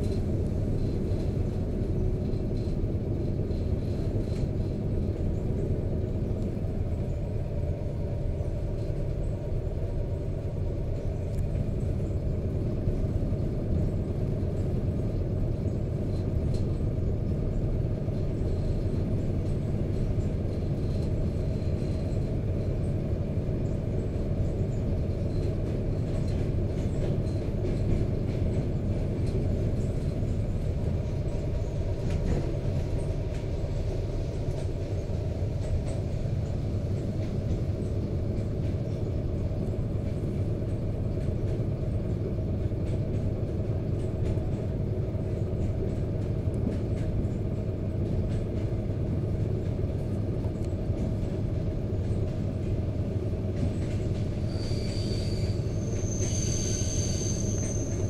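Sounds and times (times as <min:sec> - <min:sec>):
train rumble from inside carriage: 0:00.0 - 0:58.0.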